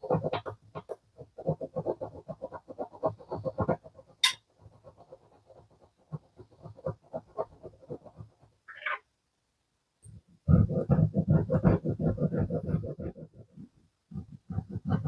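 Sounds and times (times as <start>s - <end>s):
hand scraping metal model car: 0.0s - 9.0s, 10.5s - 15.0s.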